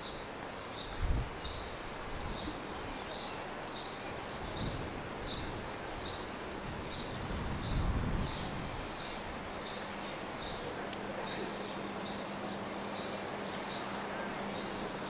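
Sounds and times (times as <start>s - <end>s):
street background noise: 0.0s - 15.0s.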